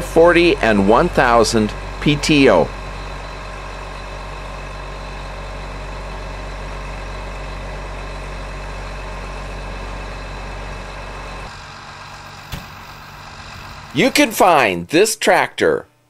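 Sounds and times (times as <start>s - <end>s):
tractor diesel engine idling: 0.0s - 14.7s.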